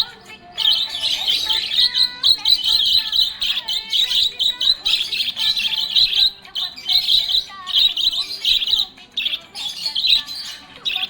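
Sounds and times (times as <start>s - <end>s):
budgerigars chirping and warbling: 0.0s - 11.0s.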